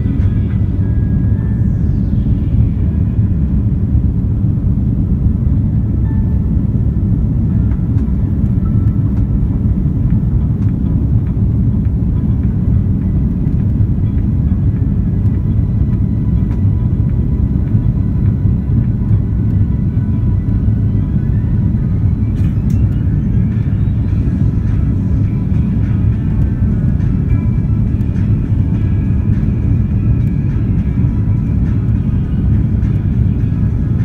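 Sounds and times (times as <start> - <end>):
jet engine cabin rumble: 0.0 - 34.0.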